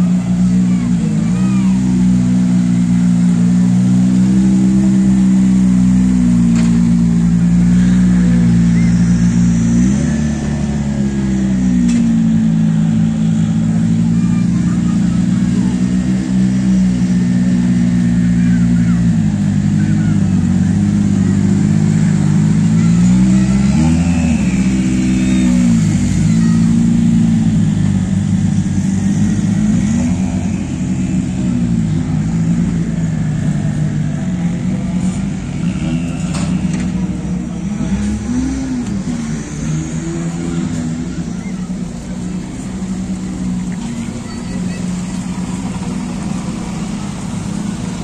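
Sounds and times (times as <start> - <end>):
car engines running: 0.0 - 48.0
engine throttle blips: 0.0 - 48.0.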